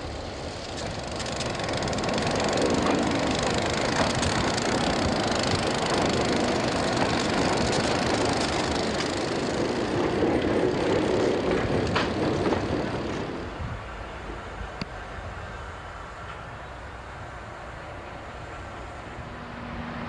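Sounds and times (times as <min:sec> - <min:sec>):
diesel locomotive engines running: 0:00.0 - 0:20.0
train wheel and rail noise: 0:00.0 - 0:20.0.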